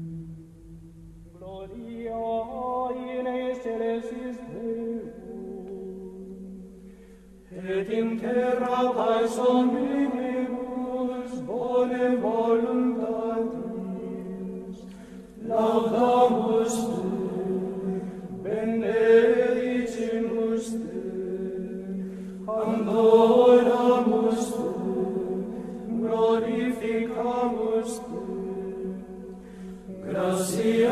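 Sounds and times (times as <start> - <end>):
choral chant: 1.4 - 6.8, 7.5 - 30.9.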